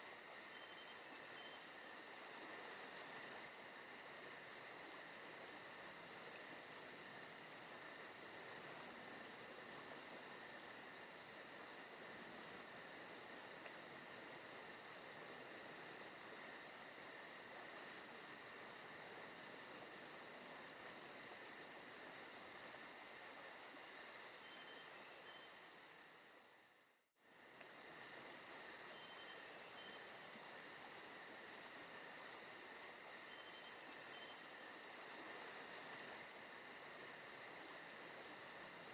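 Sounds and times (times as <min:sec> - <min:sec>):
insects chirping: 0:00.0 - 0:38.9
soft hiss: 0:00.0 - 0:38.9.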